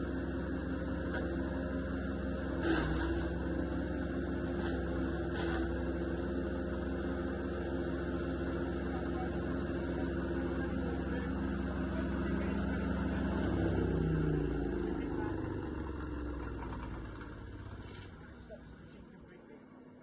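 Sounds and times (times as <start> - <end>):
petrol wood chipper running: 0.0 - 20.0.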